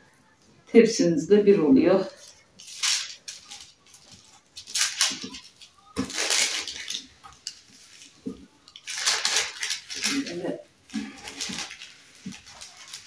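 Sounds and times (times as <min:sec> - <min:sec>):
baking paper rustling: 0:01.9 - 0:13.0.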